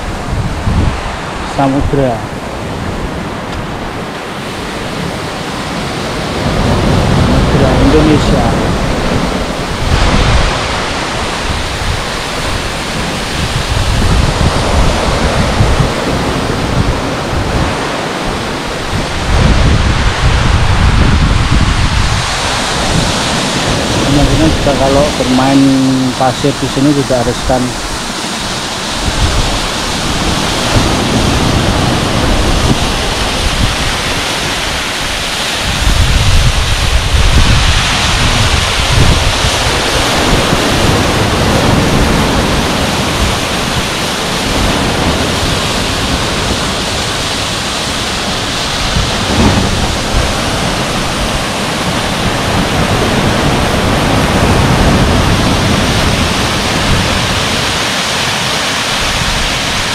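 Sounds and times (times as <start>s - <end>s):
ocean surf washing in: 0.0s - 59.9s
wind rumble on microphone: 0.0s - 59.9s.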